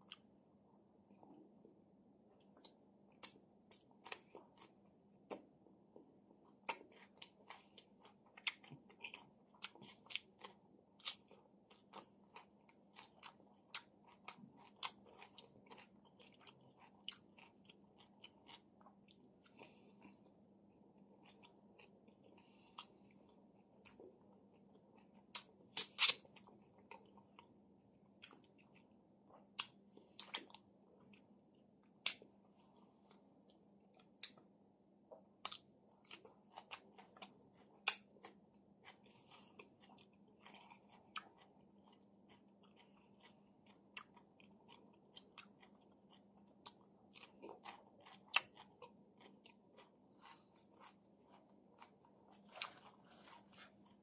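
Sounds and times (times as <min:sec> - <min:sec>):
crunching and chewing cucumber: 0:02.4 - 0:34.5, 0:35.1 - 0:54.0.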